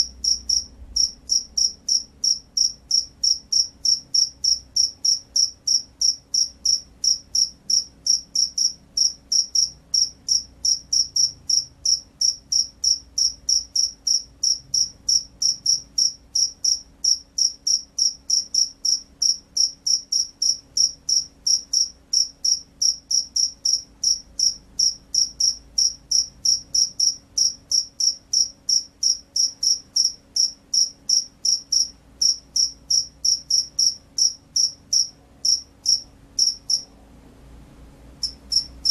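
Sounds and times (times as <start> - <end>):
cricket chirping: 0.0 - 36.9, 38.2 - 38.9.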